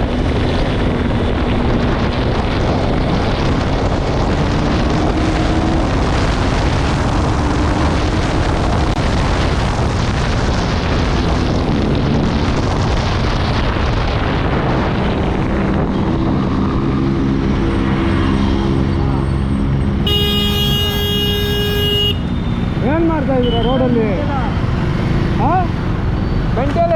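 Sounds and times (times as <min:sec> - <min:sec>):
motorcycle engine: 0:00.0 - 0:13.2, 0:14.7 - 0:26.8
wind rushing over microphone: 0:00.0 - 0:26.9.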